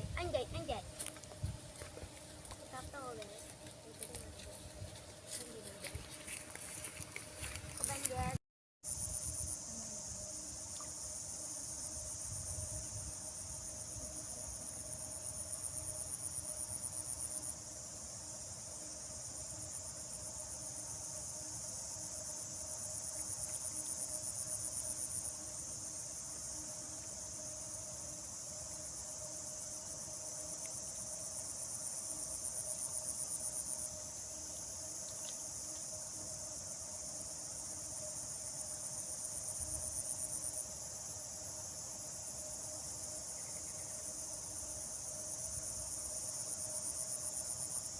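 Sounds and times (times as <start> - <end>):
insects chirring: 0.0 - 47.9
pulsing high insect trill: 0.0 - 47.9.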